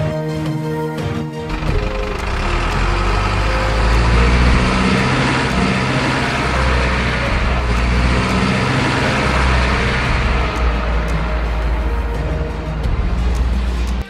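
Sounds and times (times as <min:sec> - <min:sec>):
truck engine running: 0:01.3 - 0:14.0.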